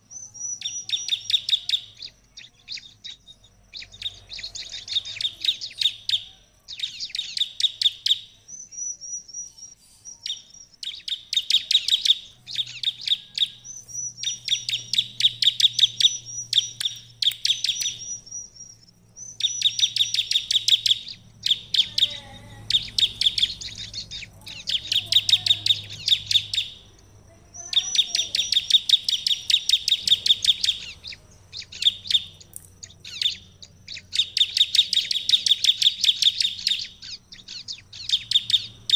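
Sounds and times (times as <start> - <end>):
thin high bird whistles: 0.0 - 27.0, 27.6 - 38.9
bird song with rapid sharp notes: 0.0 - 38.9.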